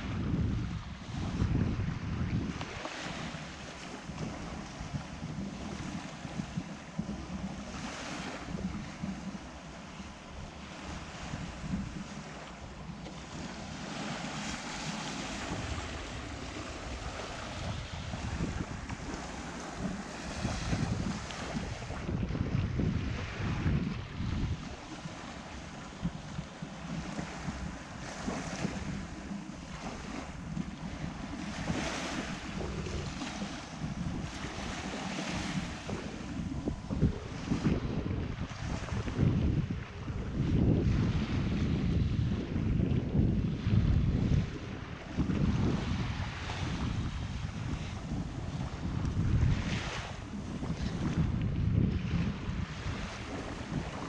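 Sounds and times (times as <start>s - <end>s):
waves washing onto sand: 0.0s - 54.0s
wind buffeting microphone: 0.0s - 54.0s.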